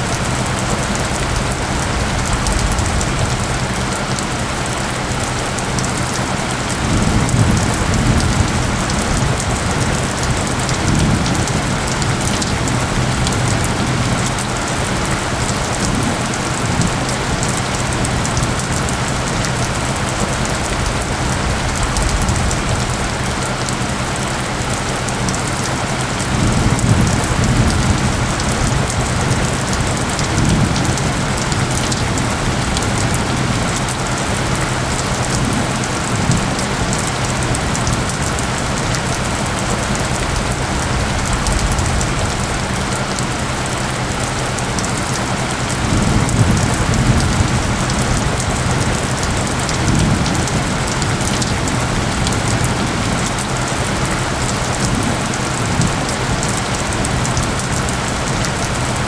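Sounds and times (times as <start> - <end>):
dense rain pattering: 0.0 - 59.0.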